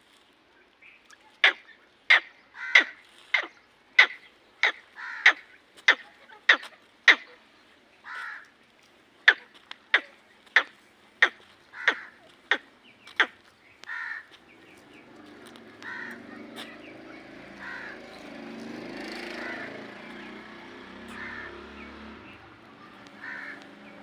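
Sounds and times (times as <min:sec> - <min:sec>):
bird harsh caw-like calls: 0:01.4 - 0:08.5, 0:09.2 - 0:24.0.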